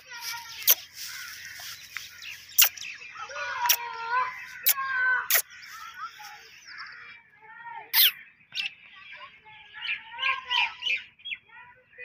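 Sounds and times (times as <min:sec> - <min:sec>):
sharp loud bird calls: 0:00.0 - 0:11.5
birds chirping: 0:00.0 - 0:12.0.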